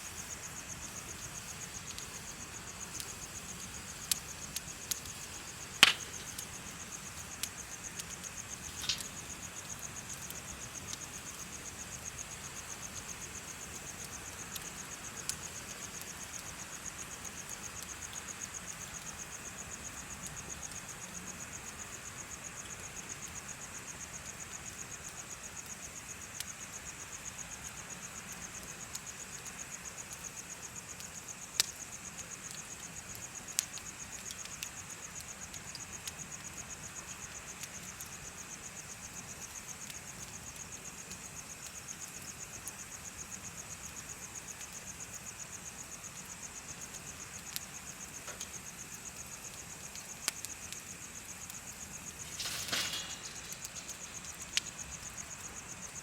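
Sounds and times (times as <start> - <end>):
bonfire crackling pops: 0.0 - 56.0
crickets chirping: 0.0 - 56.0.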